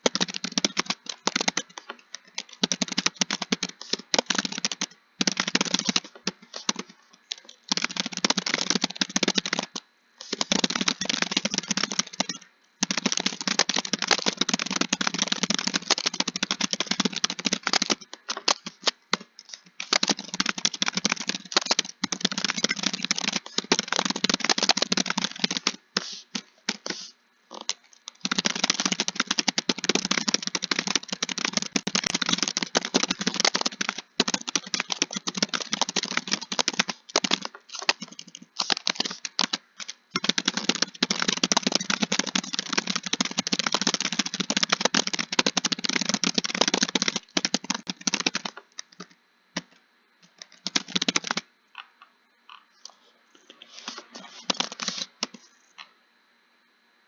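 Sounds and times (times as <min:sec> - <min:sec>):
typing on computer keyboard: 0:00.0 - 0:51.9, 0:53.5 - 0:55.4.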